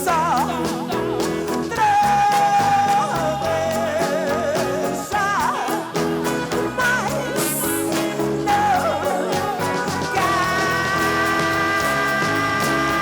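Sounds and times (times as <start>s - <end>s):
live band music: 0.0s - 13.0s
person singing: 0.0s - 13.0s
steady held notes: 0.0s - 13.0s.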